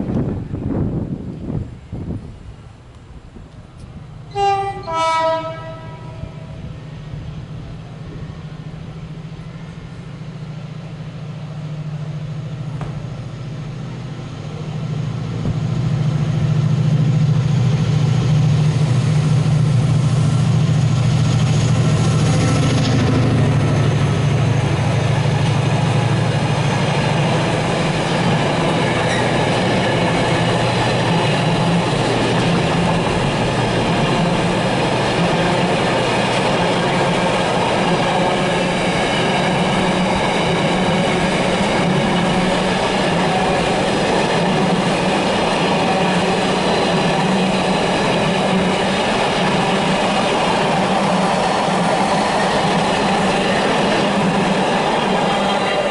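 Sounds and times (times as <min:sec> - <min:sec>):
diesel locomotive engine passing: 0:00.0 - 0:55.9
train wheels rumbling on rail: 0:00.0 - 0:55.9.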